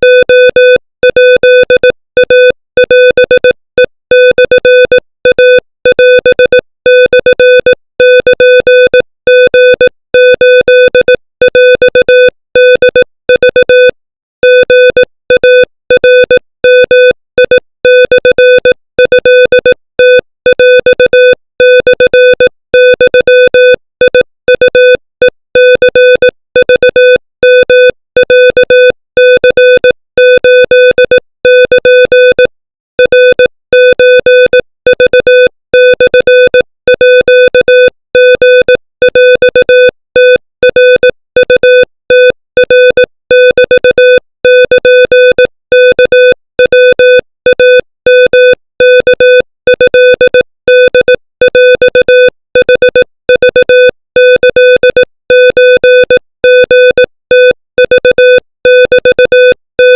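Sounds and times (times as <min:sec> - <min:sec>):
morse code beeps: 0:00.0 - 0:59.9.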